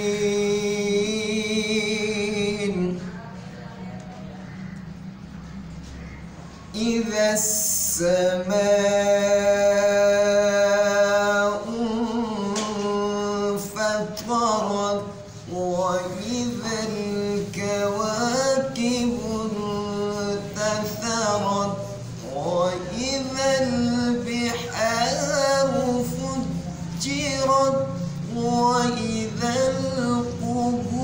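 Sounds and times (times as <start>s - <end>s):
man chanting melodically: 0.0s - 3.1s, 6.2s - 31.0s.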